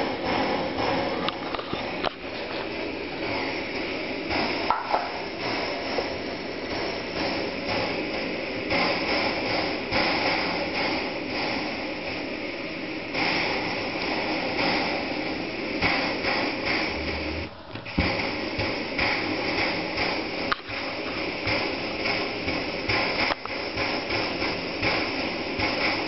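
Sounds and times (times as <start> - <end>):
petrol stove burner hissing: 0.0 - 26.0.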